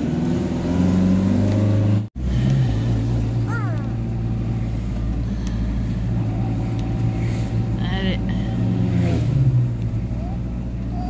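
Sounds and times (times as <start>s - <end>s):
engine and road noise hum: 0.0s - 11.0s.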